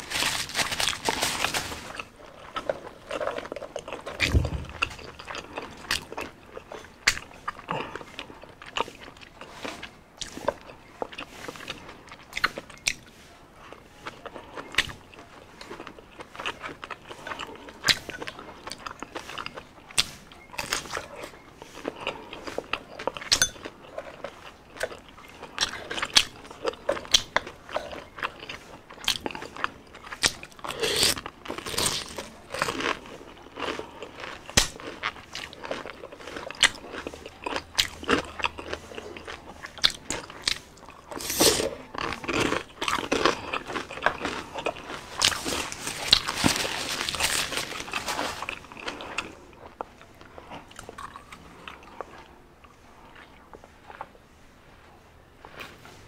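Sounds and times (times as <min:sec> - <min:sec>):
chewing crispy fried food: 0:00.0 - 0:56.0.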